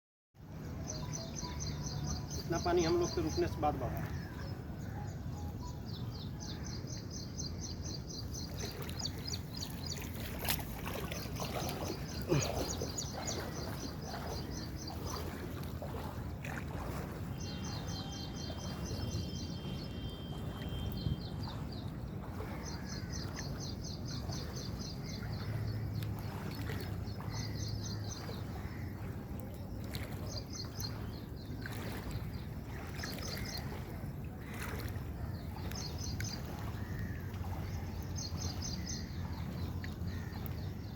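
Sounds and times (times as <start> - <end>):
running water: 0.4 - 5.6, 6.6 - 40.9.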